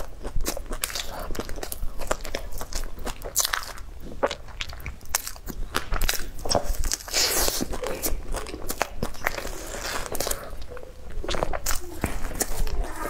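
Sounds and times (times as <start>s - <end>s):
crunchy chewing of flatbread: 0.0s - 13.0s.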